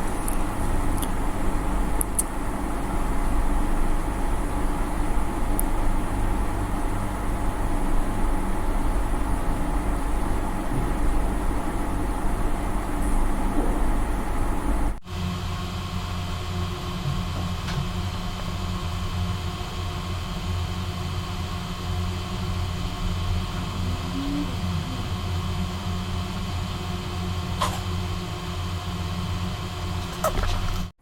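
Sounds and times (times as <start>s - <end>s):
mechanical hum with faint whine: 0.0s - 30.9s.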